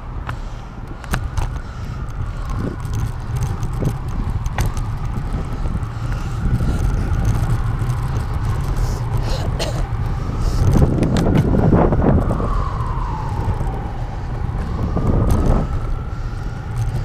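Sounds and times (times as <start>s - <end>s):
bike clicks and rattles: 0.0s - 12.6s, 13.2s - 13.8s, 14.4s - 17.0s
bicycle tyre noise: 0.0s - 17.0s
wind rumble on microphone: 0.0s - 17.0s.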